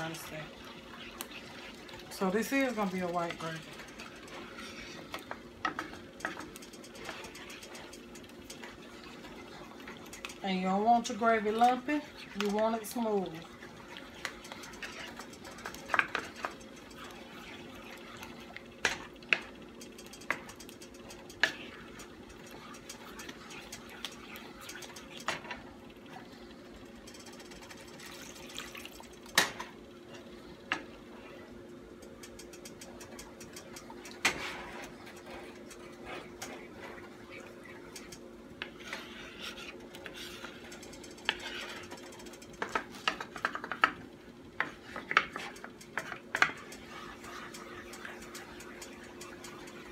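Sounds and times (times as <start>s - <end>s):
wooden spoon stirring gravy: 0.0s - 26.5s, 32.9s - 49.9s
steady low hum: 0.0s - 49.9s.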